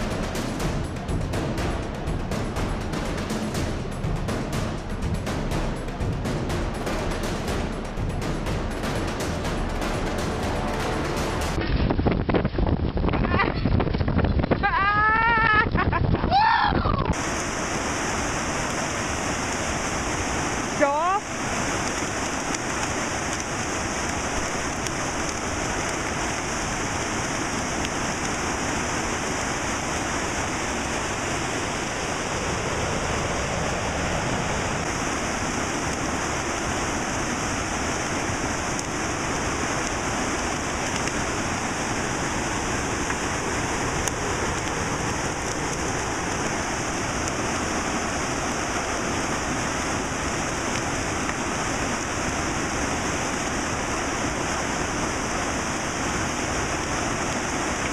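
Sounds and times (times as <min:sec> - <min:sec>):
water rushing over rocks: 0:00.0 - 0:57.9.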